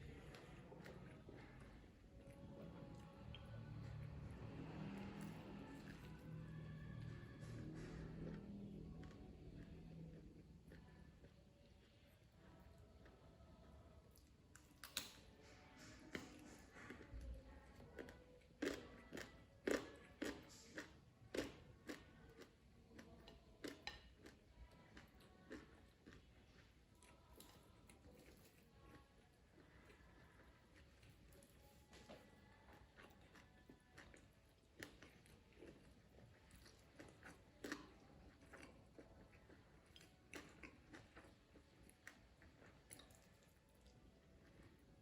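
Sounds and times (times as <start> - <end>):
chewing crunchy food: 0.0 - 45.0.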